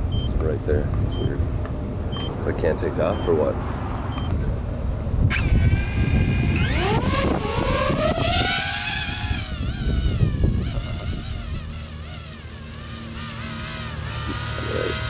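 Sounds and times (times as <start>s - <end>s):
heavy low rumble: 0.0s - 6.7s, 7.8s - 15.0s
drone propellers whining: 0.0s - 15.0s.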